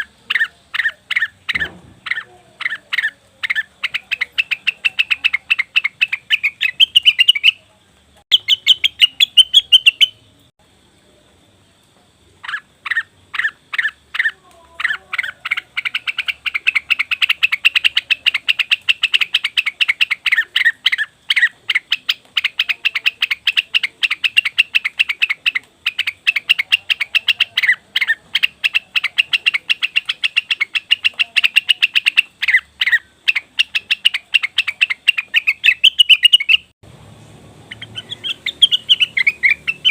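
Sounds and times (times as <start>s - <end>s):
bird chattering calls: 0.0s - 7.7s, 8.3s - 10.2s, 12.4s - 36.7s, 37.6s - 39.9s.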